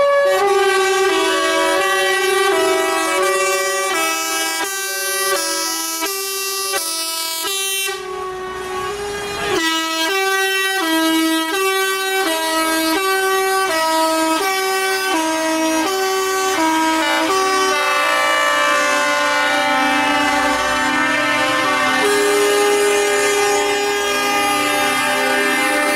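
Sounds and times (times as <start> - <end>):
musical air horn playing: 0.0 - 25.9.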